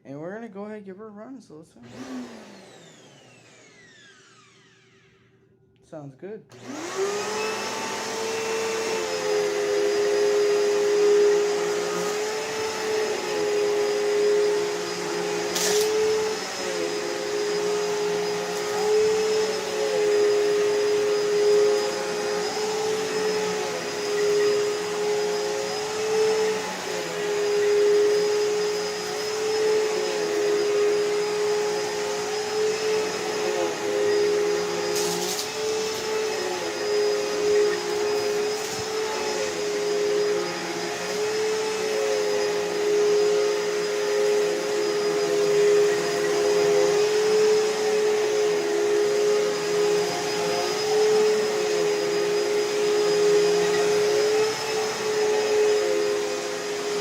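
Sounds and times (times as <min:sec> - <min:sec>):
vacuum cleaner running: 0:01.8 - 0:05.6, 0:06.5 - 0:57.0.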